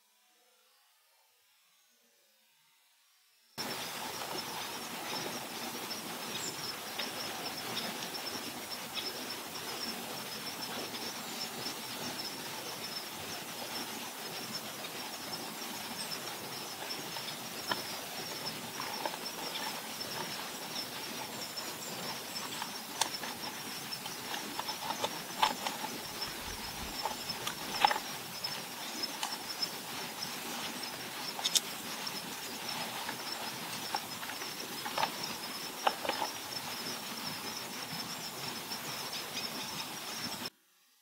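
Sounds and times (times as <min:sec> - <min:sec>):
insects chirring: 0:03.6 - 0:40.5.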